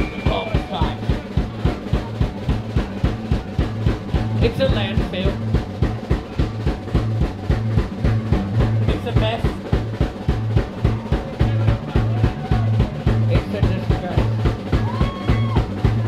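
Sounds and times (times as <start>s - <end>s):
drum kit fast beat: 0.0s - 16.0s
live band playing loud: 0.0s - 16.0s.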